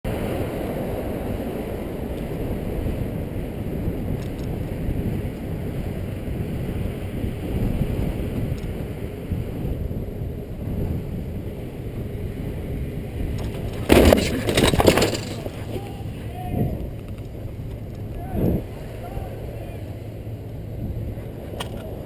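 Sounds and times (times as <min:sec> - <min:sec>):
wind rush on microphone: 0:00.0 - 0:22.0
road and traffic rumble: 0:00.1 - 0:22.0.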